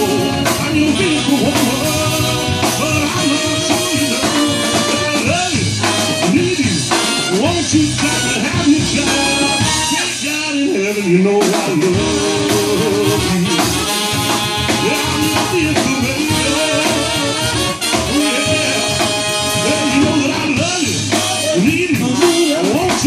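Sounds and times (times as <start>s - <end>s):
rock band with horns playing: 0.0s - 23.0s.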